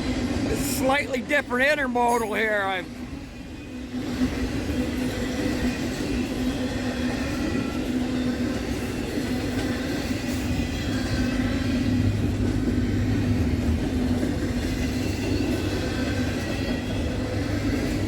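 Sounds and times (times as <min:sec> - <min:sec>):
freight train rumble: 0:00.0 - 0:18.0.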